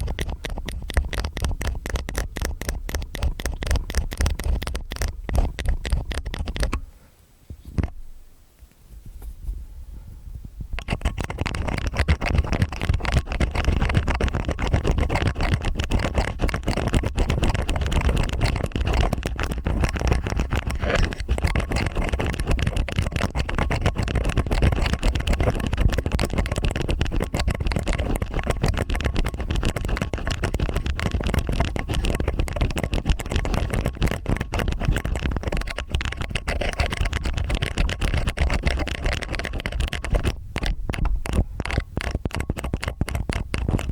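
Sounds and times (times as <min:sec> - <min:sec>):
ear picks scratching in ears: 0:00.0 - 0:06.9, 0:10.7 - 0:43.9.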